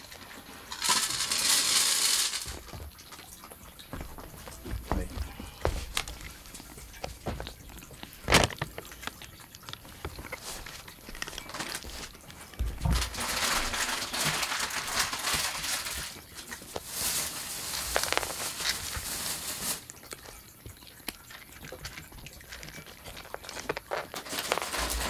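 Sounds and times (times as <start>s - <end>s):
cats crunching dry kibble: 0.0s - 25.0s
kibble rattling against bowl: 0.0s - 25.0s.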